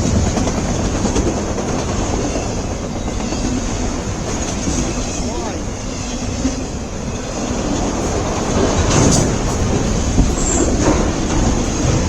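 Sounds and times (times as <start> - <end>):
clacks and knocks: 0.0 - 12.0
freight train wheels rumbling: 0.0 - 12.0
high wheel squeal: 0.0 - 12.0.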